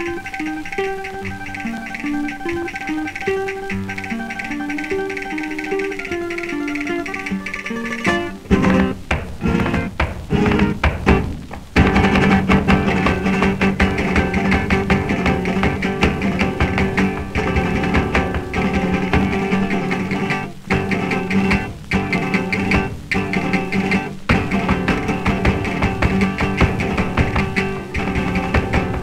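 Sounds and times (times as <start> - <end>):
plucked guitar music: 0.0 - 29.0.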